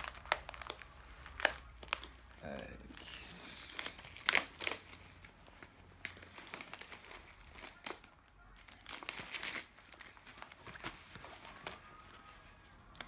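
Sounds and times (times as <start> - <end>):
plastic wrapping crinkling and tearing: 0.0 - 13.0.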